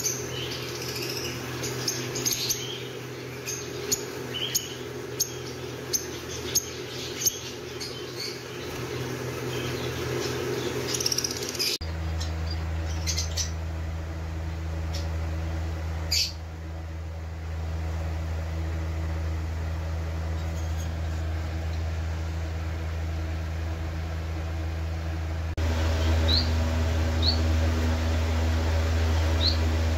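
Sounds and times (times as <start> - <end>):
birds chirping: 0.0 - 29.9
steady low hum: 0.0 - 29.9.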